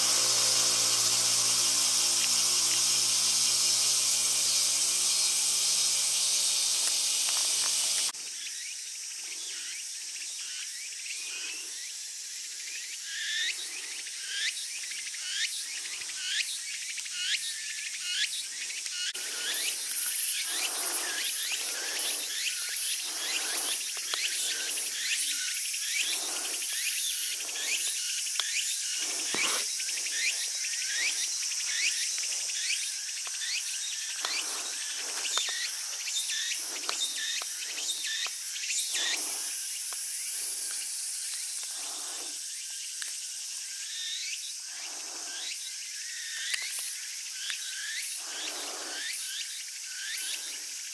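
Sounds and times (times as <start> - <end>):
insect chorus shrilling: 0.0 - 50.9
short rising insect calls: 0.0 - 50.9.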